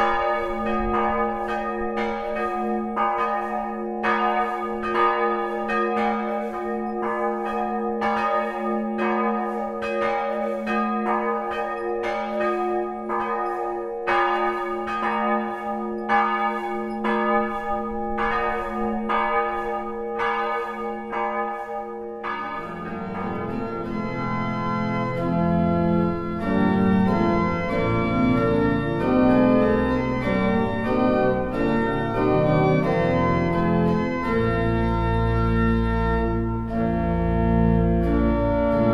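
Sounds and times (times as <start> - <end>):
church bells ringing: 0.0 - 38.9
pipe organ playing chords: 0.0 - 38.9.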